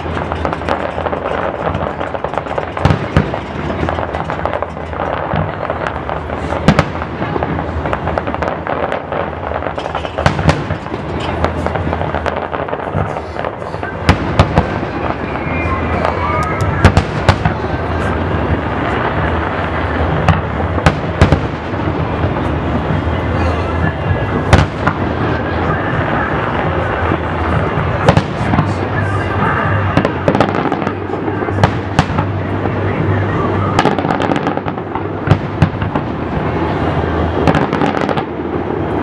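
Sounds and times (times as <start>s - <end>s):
fireworks crackling: 0.0s - 39.0s
loud firework bangs: 0.0s - 39.0s.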